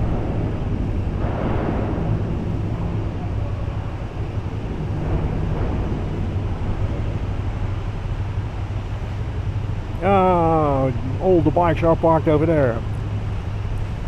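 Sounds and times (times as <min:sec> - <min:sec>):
wind noise on microphone: 0:00.0 - 0:11.6.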